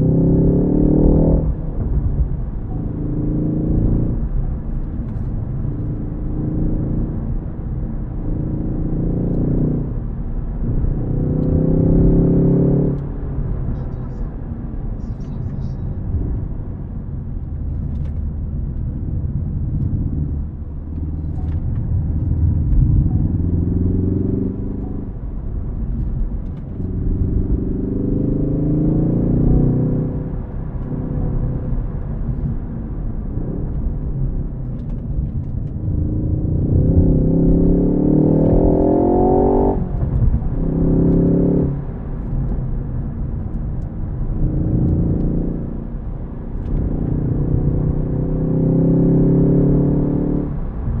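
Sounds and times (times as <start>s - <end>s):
car engine accelerating hard: 0.0s - 51.0s.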